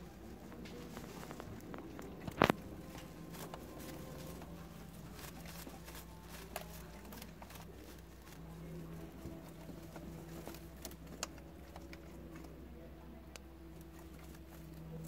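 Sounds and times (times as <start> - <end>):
dry straw rustling and crackling: 0.0 - 12.7, 13.3 - 15.0
low steady hum: 0.0 - 15.0.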